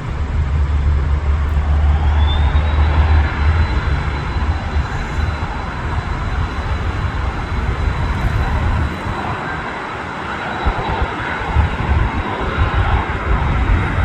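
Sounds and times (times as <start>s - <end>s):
high-pitched engine whine: 0.0s - 14.0s
jet engines roaring: 0.0s - 14.0s.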